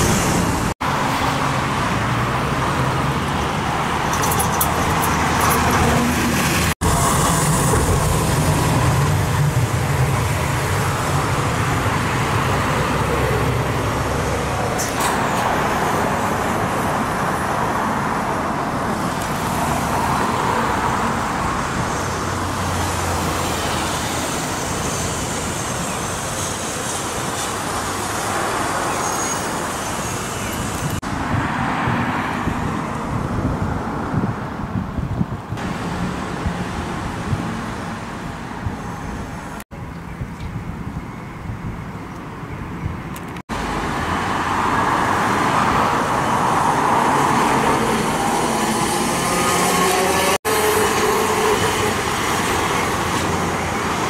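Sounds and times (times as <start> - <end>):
tram rumbling past: 0.0 - 34.5, 43.6 - 54.0
city road traffic: 0.0 - 54.0.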